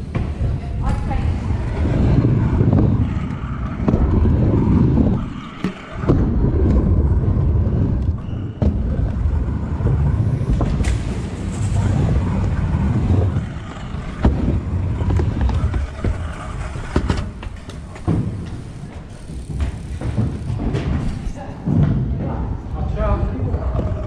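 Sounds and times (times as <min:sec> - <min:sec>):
scooter wheels rumbling on ramps: 0:00.0 - 0:24.0.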